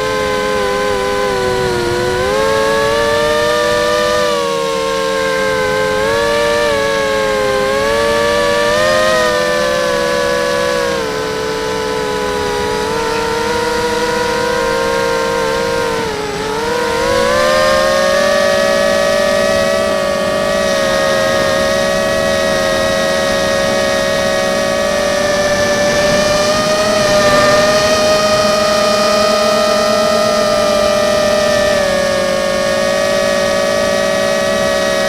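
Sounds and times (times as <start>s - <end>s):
quadcopter motors whining: 0.0s - 35.0s.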